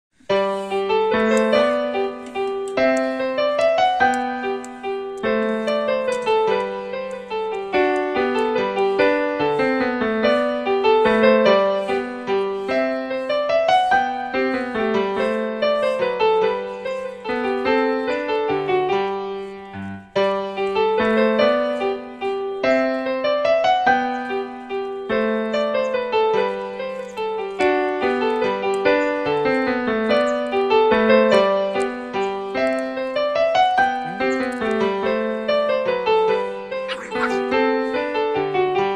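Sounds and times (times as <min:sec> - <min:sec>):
piano music: 0:00.2 - 0:38.9.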